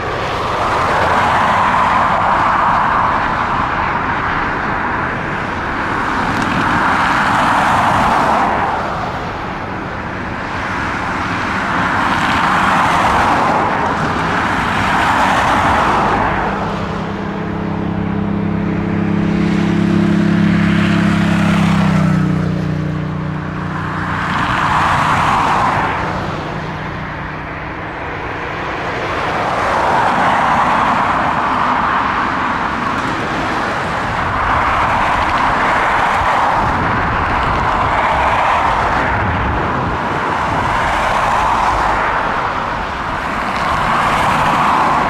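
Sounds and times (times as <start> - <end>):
jet airliner passing: 0.0 - 45.0.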